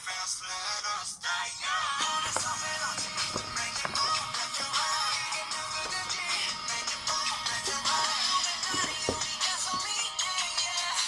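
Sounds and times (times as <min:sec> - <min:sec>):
background pop music: 0:00.0 - 0:11.0.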